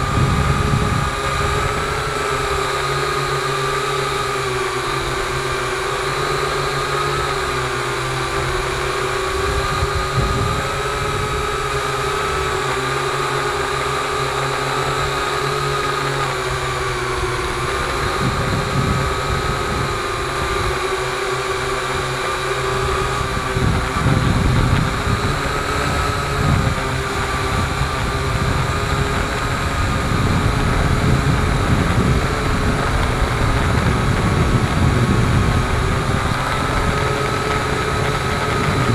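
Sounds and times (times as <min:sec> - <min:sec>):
drone propellers whining: 0:00.0 - 0:38.9
gusty wind rumble on microphone: 0:00.0 - 0:38.9.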